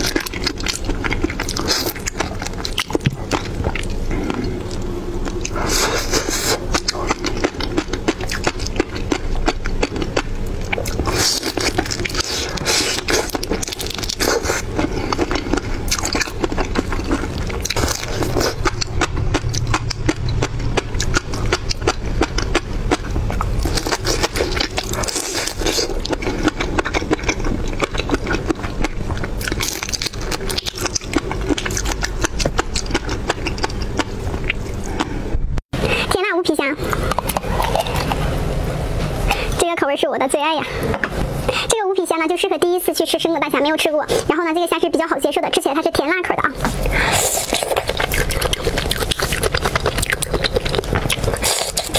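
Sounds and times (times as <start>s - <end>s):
wet crackling chewing: 0.0s - 35.3s, 36.6s - 39.5s, 45.9s - 51.9s.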